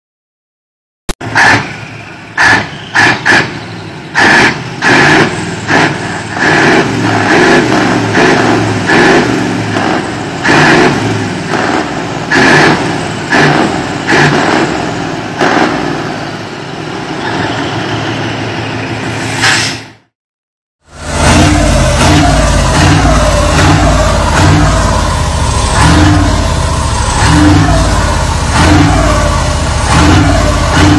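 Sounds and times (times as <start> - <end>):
diesel truck engines revving: 1.2 - 20.1, 20.8 - 30.9.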